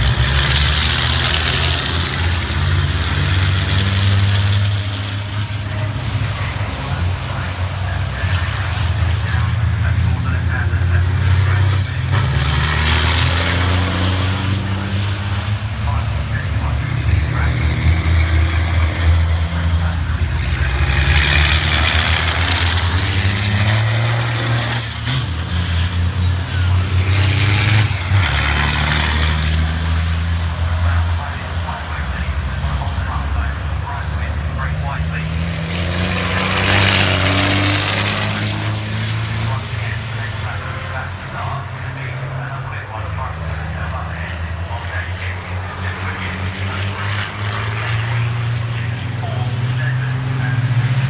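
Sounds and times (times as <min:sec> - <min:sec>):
truck diesel engines passing: 0:00.0 - 0:51.0.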